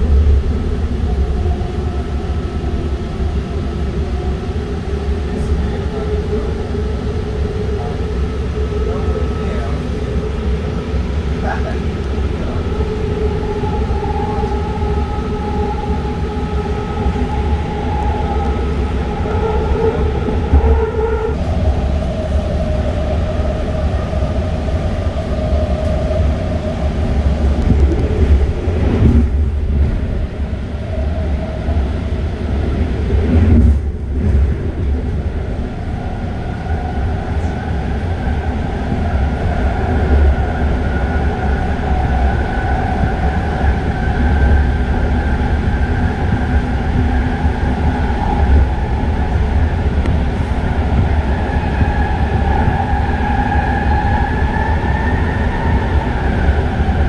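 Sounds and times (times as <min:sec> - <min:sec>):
train wheels rumbling on rails: 0:00.0 - 0:57.0
train whine: 0:00.0 - 0:57.0.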